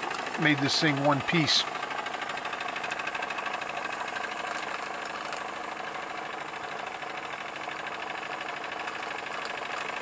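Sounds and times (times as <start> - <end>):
toy steam engine running: 0.0 - 10.0.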